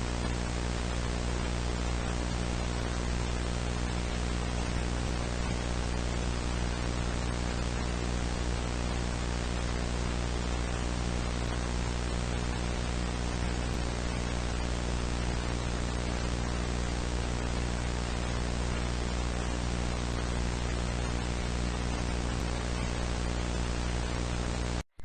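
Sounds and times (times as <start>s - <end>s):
low electrical hum: 0.0s - 24.8s
static hiss: 0.0s - 24.8s.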